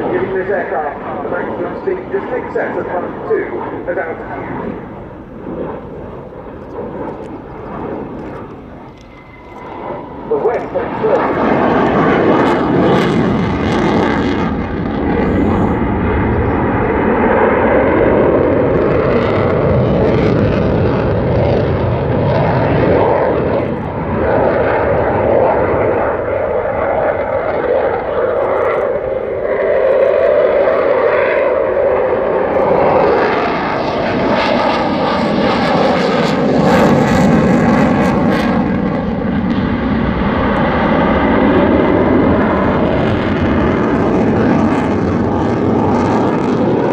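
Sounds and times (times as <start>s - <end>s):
loud jet roar: 0.0s - 46.9s.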